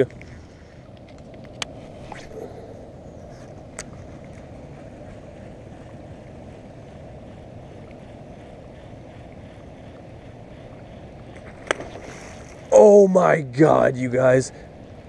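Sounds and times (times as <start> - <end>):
low wind: 0.0 - 15.0
water noise: 0.0 - 15.0.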